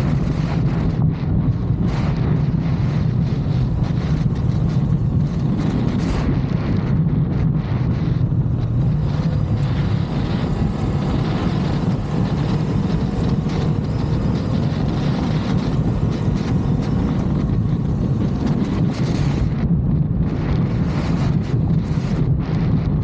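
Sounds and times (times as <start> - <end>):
motorcycle engine running: 0.0 - 23.0
wind on microphone: 0.0 - 23.0.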